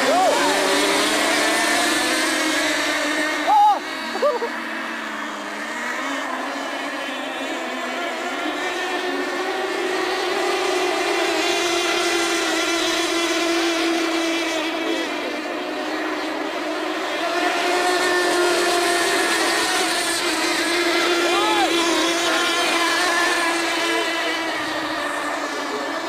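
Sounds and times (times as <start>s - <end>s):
model boat engines whining: 0.0s - 26.0s.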